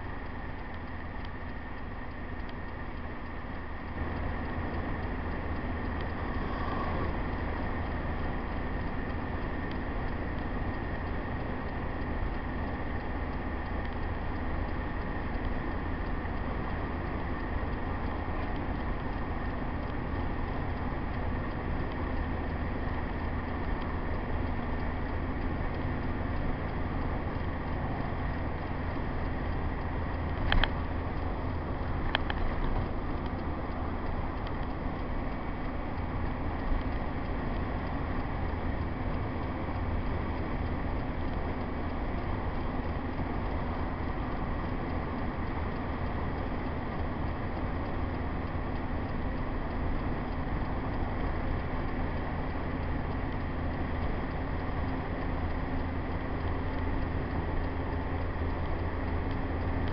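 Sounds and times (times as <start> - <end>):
motorhome engine and road noise: 0.0 - 59.9.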